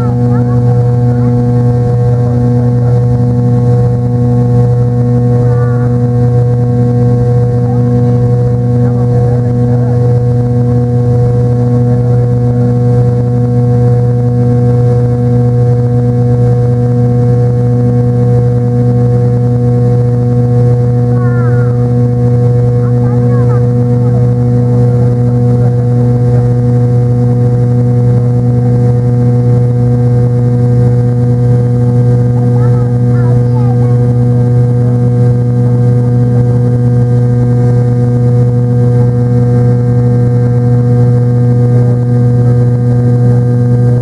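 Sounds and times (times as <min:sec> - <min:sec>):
aircraft cabin engine drone: 0:00.0 - 0:44.0.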